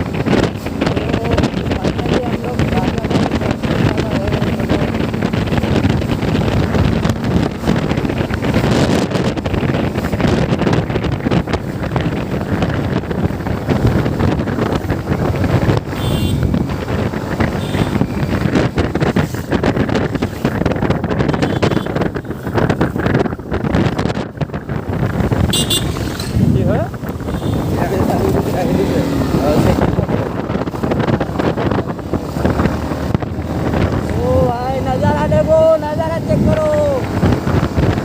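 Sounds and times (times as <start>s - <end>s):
motorcycle engine running: 0.0s - 38.0s
wind buffeting microphone: 0.0s - 38.0s.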